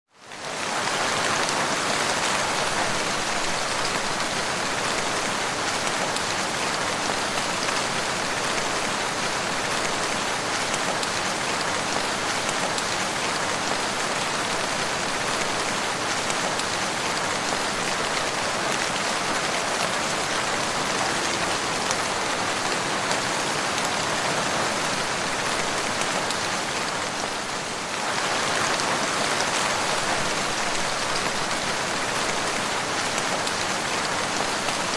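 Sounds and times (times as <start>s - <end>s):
rain pattering on surfaces: 0.1s - 34.9s.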